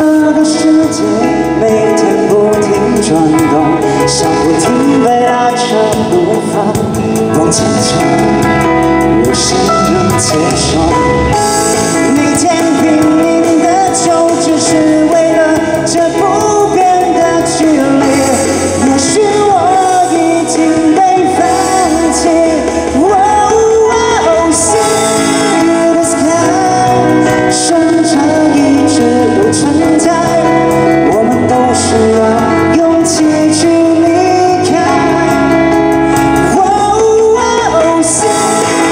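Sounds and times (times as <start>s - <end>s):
live band playing pop song: 0.0s - 38.9s
man singing into microphone: 0.0s - 38.9s.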